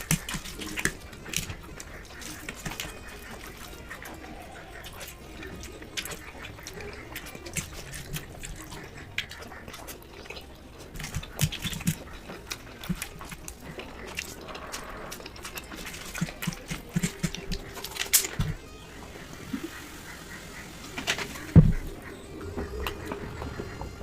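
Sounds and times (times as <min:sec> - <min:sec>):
wet chewing and lip smacking: 0:00.0 - 0:18.8, 0:20.9 - 0:24.0.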